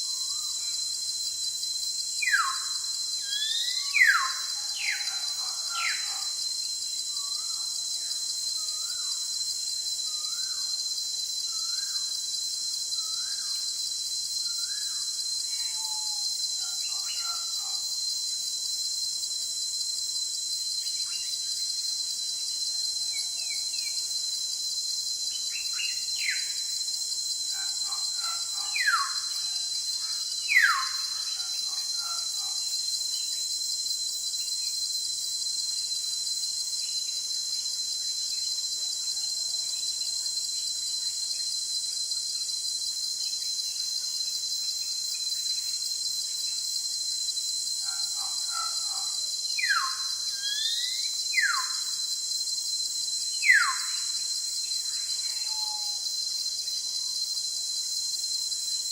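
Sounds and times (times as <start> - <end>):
high-pitched insect chorus: 0.0 - 58.9.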